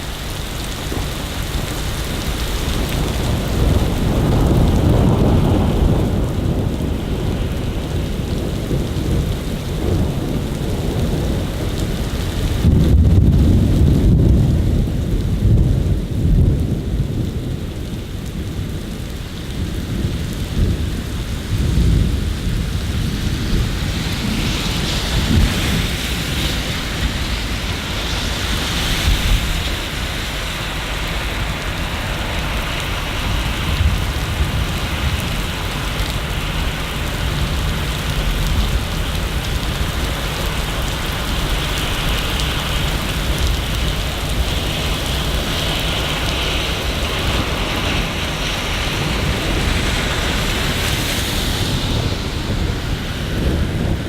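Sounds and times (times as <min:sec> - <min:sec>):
rolling thunder: 0:00.0 - 0:54.0
steady rain: 0:00.0 - 0:54.0.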